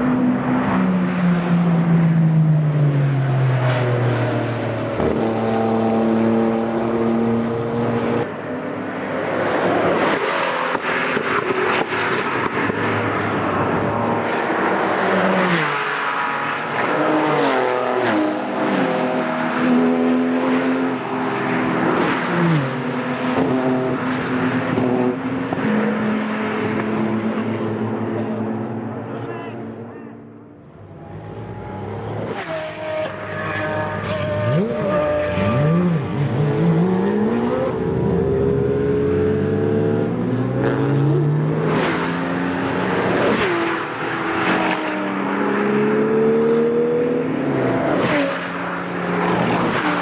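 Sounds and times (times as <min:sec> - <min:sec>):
race cars accelerating and shifting gears: 0:00.0 - 0:50.0.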